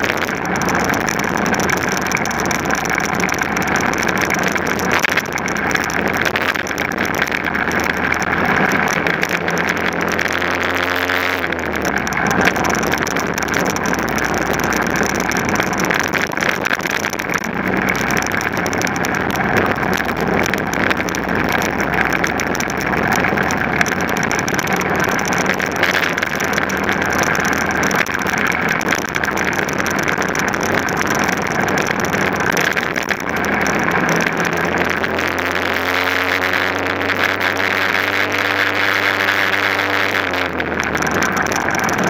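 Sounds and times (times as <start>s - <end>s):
racing engine running at speed: 0.0s - 42.0s.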